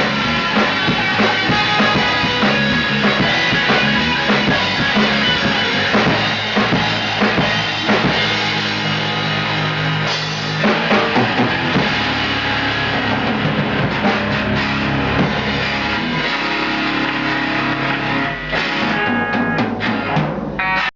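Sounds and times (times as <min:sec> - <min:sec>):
bass drum: 0:00.0 - 0:20.6
bass guitar: 0:00.0 - 0:20.9
electric guitar: 0:00.0 - 0:20.9.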